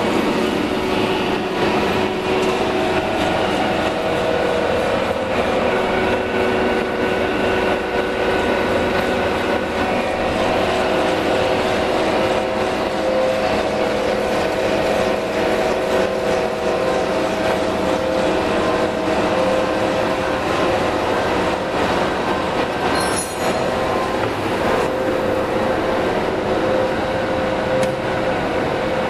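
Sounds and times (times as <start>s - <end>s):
drilling machine droning: 0.0s - 29.0s.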